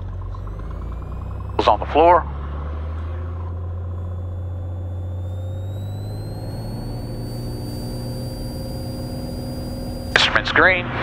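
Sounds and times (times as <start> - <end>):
airplane engine and propeller: 0.0 - 11.0.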